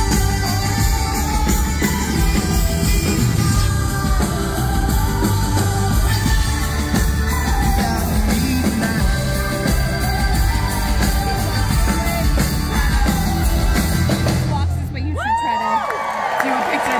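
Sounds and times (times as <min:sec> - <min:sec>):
person singing: 0:00.0 - 0:14.4
rock band playing: 0:00.0 - 0:15.2.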